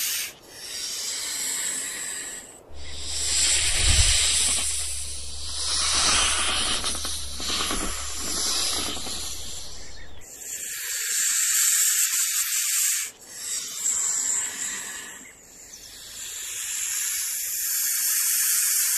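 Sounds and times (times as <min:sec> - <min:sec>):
loud breathy hissing: 0:00.0 - 0:18.9.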